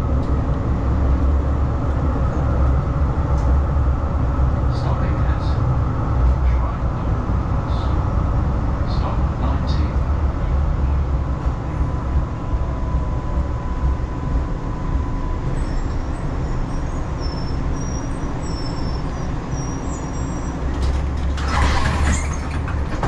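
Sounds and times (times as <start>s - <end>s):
faint steady whine: 0.0s - 19.2s
tram wheels rumbling on rails: 0.0s - 23.0s.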